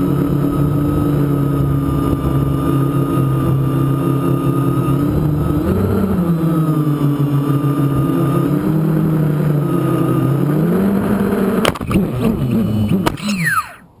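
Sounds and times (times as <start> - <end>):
motors winding down whine: 0.0 - 13.9
quadcopter motors buzzing: 0.0 - 13.9.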